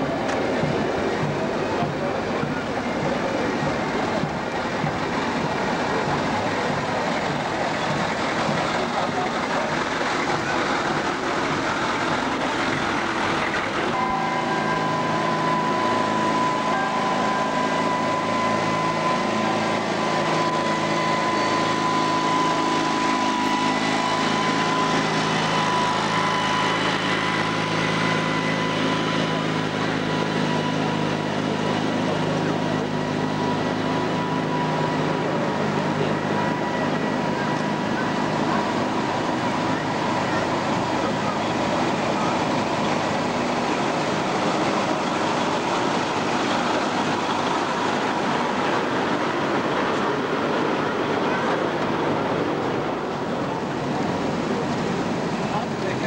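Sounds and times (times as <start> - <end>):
crowd chatter: 0.0 - 56.0
military vehicle engines: 0.0 - 56.0
steady high tone: 0.0 - 56.0.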